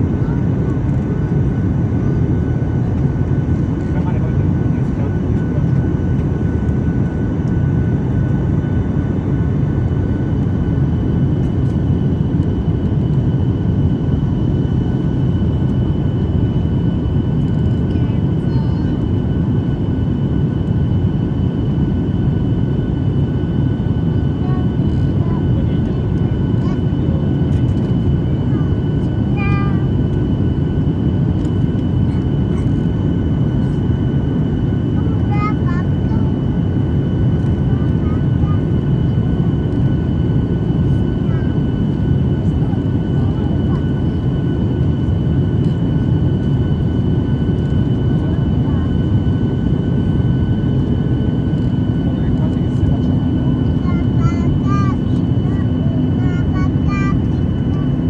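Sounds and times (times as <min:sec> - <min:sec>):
airliner engines roaring: 0:00.0 - 0:58.0.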